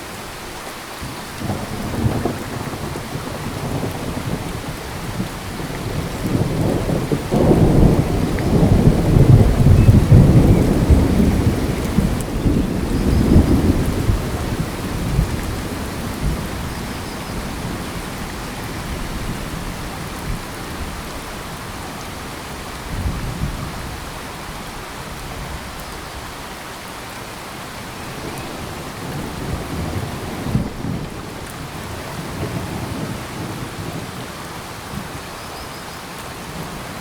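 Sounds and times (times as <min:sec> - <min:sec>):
steady rain: 0:00.0 - 0:37.0
low rumbles of thunder: 0:01.0 - 0:21.8, 0:22.6 - 0:25.8, 0:28.0 - 0:35.2.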